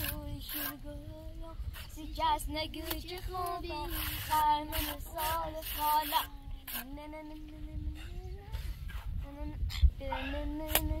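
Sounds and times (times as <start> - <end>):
high voice singing: 0.0 - 8.6, 9.2 - 11.0.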